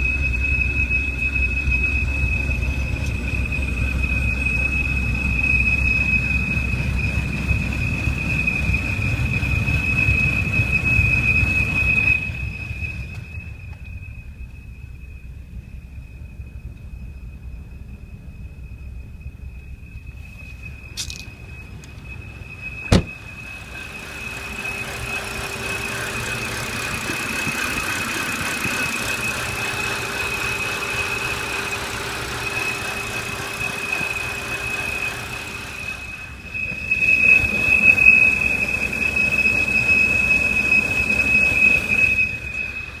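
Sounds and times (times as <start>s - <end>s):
car engine and road noise: 0.0s - 43.0s
high steady engine whistle: 0.0s - 43.0s.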